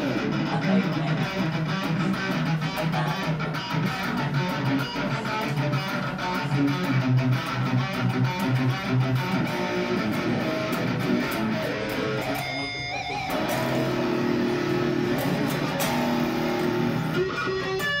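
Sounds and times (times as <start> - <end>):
electric guitar through amplifier: 0.0 - 18.0.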